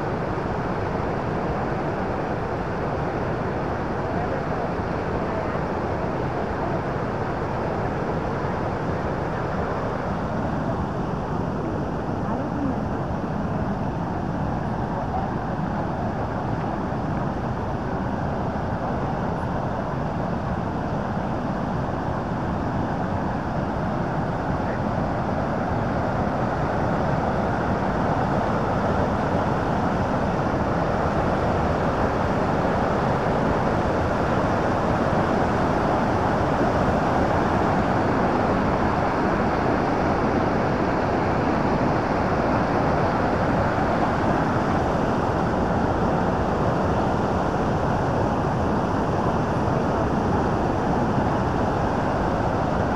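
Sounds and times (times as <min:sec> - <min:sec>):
water rushing over rapids: 0:00.0 - 0:52.9.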